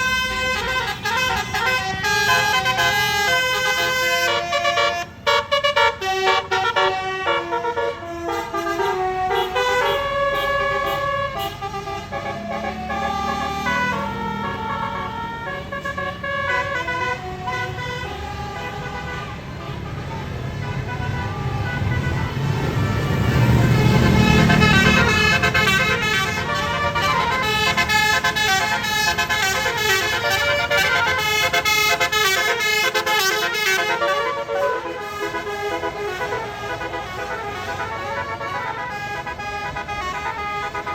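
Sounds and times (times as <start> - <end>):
bus engine rumbling: 0.0 - 40.9
bus horn playing a melody: 0.0 - 40.9.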